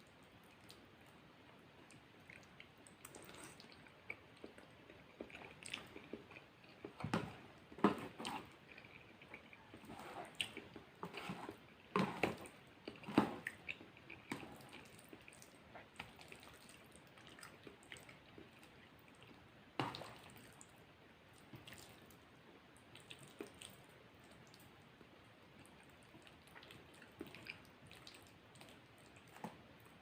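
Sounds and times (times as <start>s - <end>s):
wet chewing and mouth smacks: 0.2s - 11.6s, 12.4s - 22.2s, 22.8s - 30.0s.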